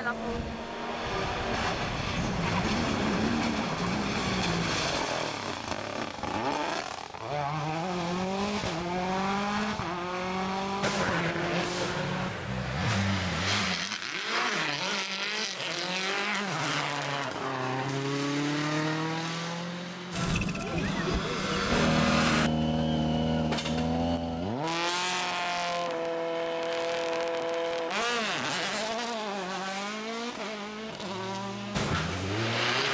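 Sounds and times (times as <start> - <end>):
rally car engine at full throttle: 0.0 - 32.9.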